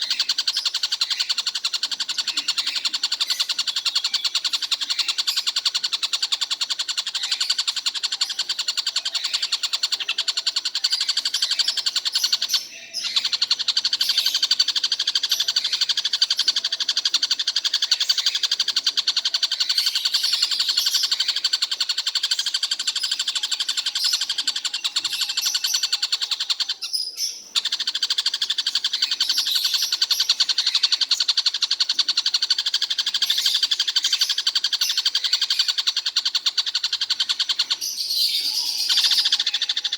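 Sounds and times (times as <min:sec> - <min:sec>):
kingfisher calling: 0:00.0 - 0:39.9.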